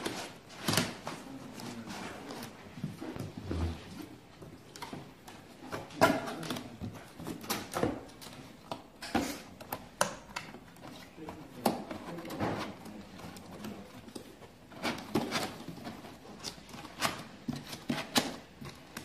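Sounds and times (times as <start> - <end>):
cardboard rustling and scraping: 0.0 - 9.8, 10.5 - 19.0.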